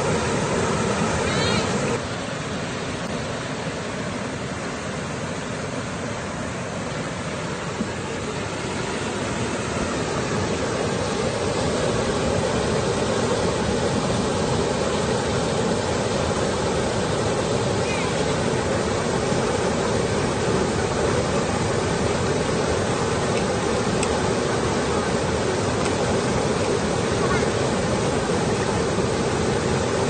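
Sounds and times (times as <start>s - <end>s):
floodwater rushing over rapids: 0.0s - 30.0s.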